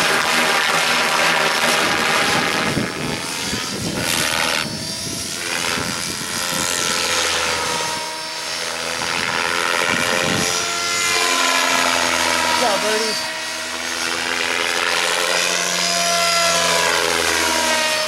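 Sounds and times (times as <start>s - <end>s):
electric motor whine: 0.0s - 18.0s
rc helicopter rotor whooshing: 0.0s - 18.0s.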